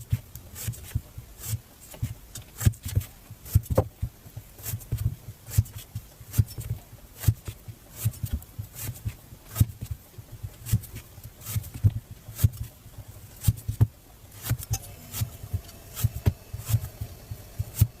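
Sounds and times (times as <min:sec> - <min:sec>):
knife cutting fruit on board: 0:00.1 - 0:18.0.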